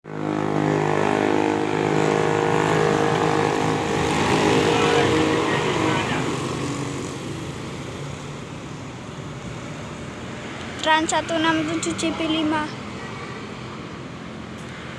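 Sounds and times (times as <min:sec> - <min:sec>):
bus engine passing by: 0:00.0 - 0:14.9.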